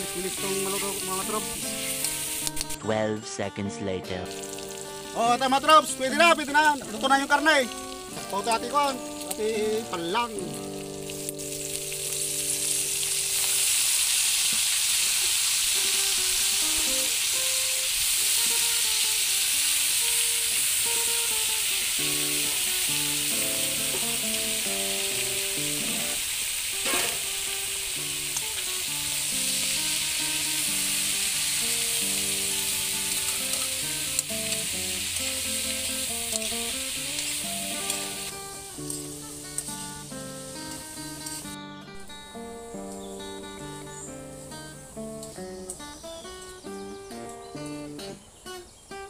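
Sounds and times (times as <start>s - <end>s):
beans and meat sizzling in a wok: 0.0s - 2.8s, 4.2s - 49.0s.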